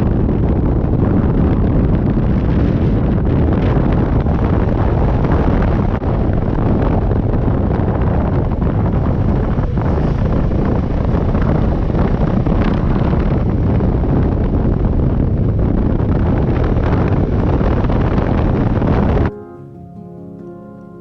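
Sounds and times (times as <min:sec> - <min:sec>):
wind rushing over microphone: 0:00.0 - 0:19.3.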